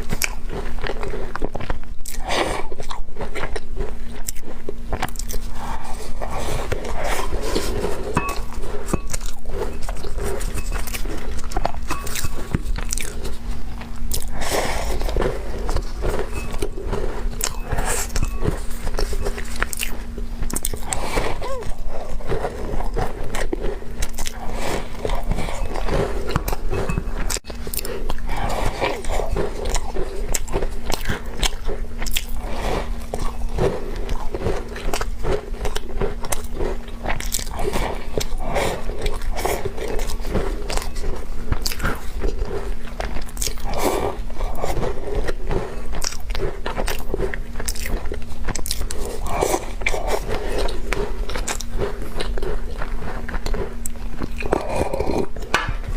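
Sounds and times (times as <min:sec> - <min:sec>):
crunchy cookies being chewed: 0:00.0 - 0:55.9.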